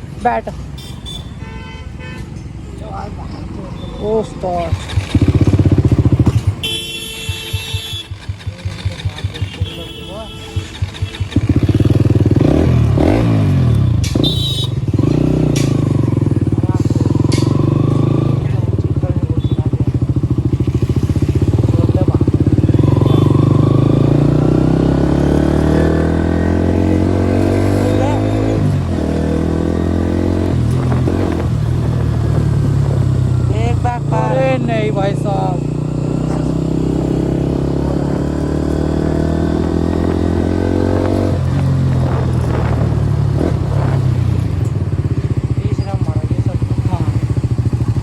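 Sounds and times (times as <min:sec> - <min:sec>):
motorcycle engine revving: 0:02.8 - 0:48.0.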